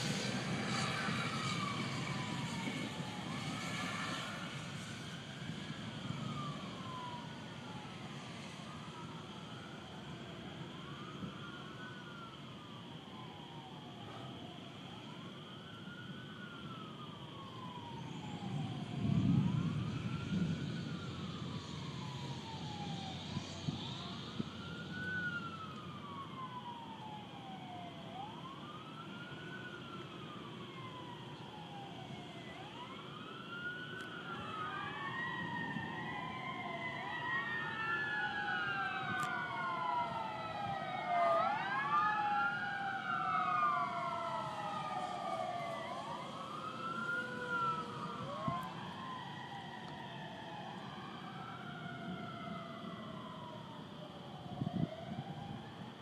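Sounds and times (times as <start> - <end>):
emergency sirens wailing: 0.0 - 56.0.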